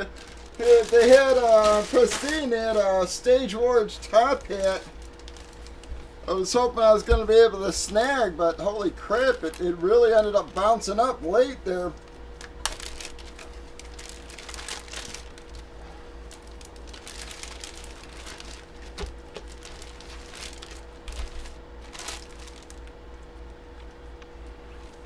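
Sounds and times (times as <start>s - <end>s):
packaging crinkling and rustling: 0.0s - 6.1s, 7.0s - 24.1s
faint hum: 0.0s - 25.0s.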